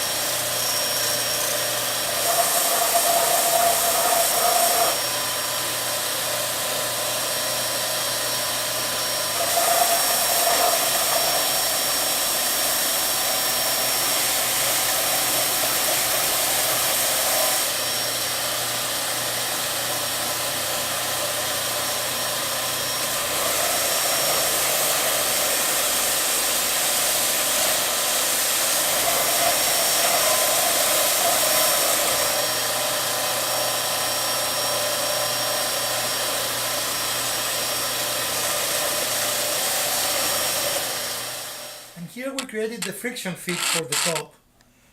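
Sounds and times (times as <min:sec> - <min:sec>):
electric sander on wood: 0:00.0 - 0:42.9, 0:43.5 - 0:44.2.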